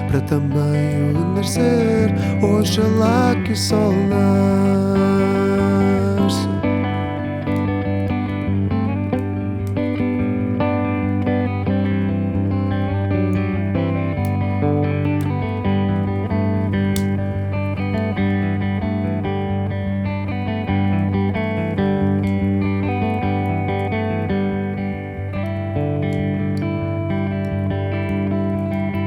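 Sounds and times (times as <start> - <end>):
plucked guitar notes: 0.0 - 29.0.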